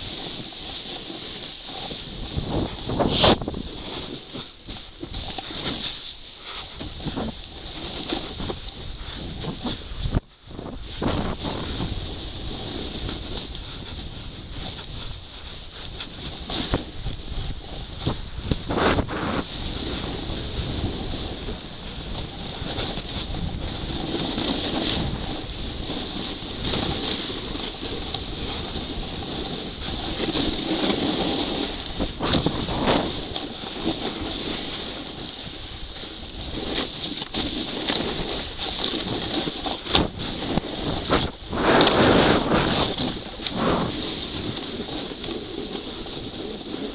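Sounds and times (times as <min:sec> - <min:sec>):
skis scraping over snow: 0:00.0 - 0:46.9
wind rushing over microphone: 0:00.0 - 0:46.9.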